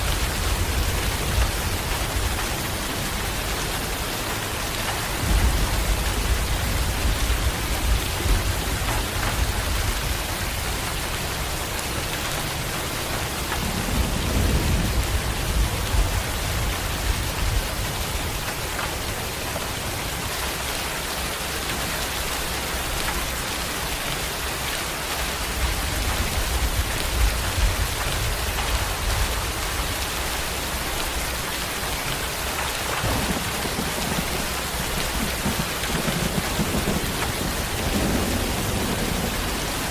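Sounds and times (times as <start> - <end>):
thunder rumbling: 0.0 - 20.5, 25.5 - 39.9
steady rain falling: 0.0 - 39.9.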